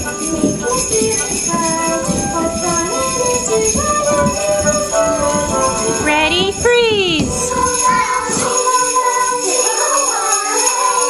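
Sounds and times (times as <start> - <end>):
music with held notes: 0.0 - 11.0
sleigh bells jingling: 0.0 - 11.0.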